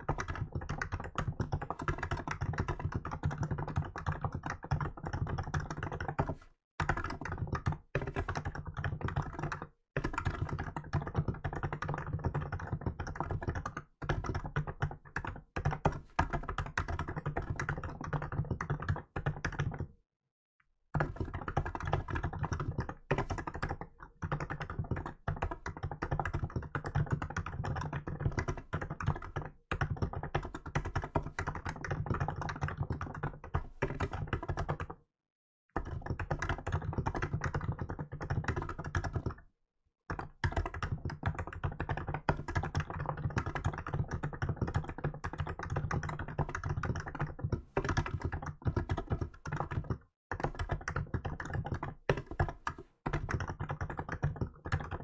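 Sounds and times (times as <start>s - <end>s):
fast typing on keyboard: 0.0s - 20.0s, 21.0s - 35.0s, 35.8s - 55.0s.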